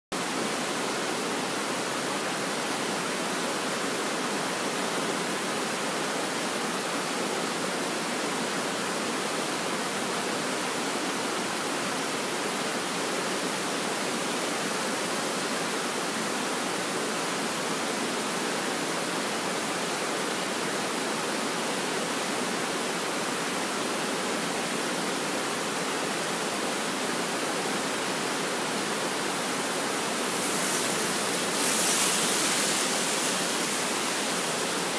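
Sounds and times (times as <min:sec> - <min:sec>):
river rushing over rocks: 0:00.2 - 0:34.9.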